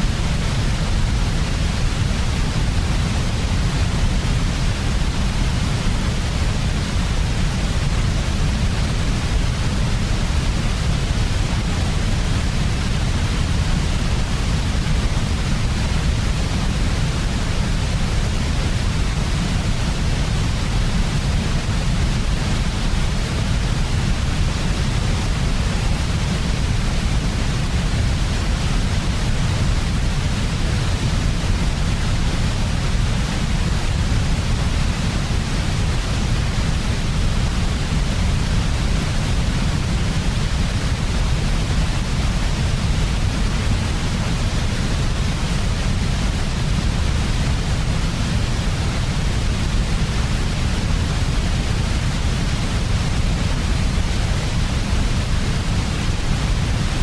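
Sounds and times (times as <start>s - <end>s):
white noise: 0.0s - 57.0s.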